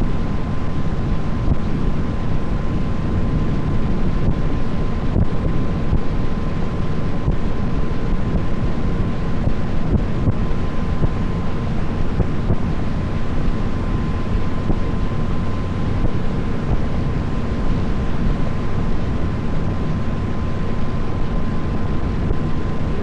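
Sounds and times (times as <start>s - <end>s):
boat engine drone: 0.0s - 23.0s
thin steady whine: 0.0s - 23.0s
wind buffeting microphone: 0.0s - 23.0s.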